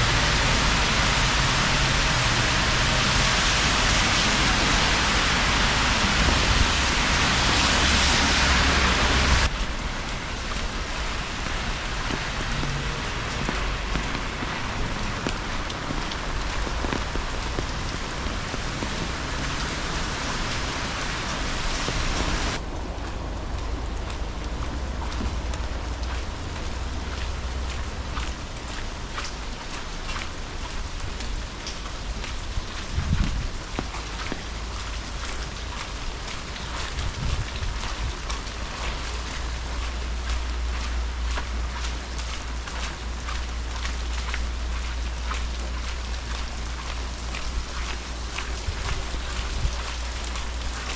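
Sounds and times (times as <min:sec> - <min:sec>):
steady rain falling: 0:00.0 - 0:50.9
low rumble of wind or surf: 0:03.5 - 0:50.9.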